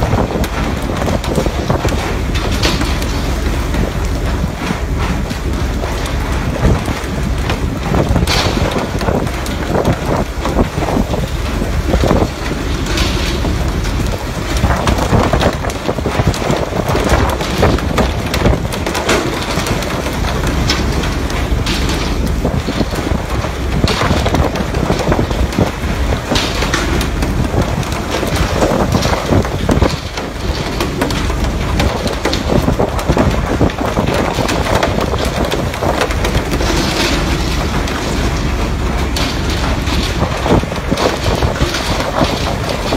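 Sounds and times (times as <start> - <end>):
low rumble: 0.0 - 42.9
water spray and wind rushing: 0.0 - 42.9.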